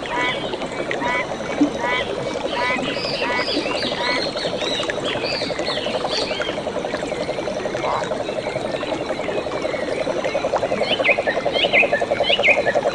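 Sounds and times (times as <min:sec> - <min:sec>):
frog croaks: 0:00.0 - 0:12.9
frogs calling in chorus: 0:00.0 - 0:12.9.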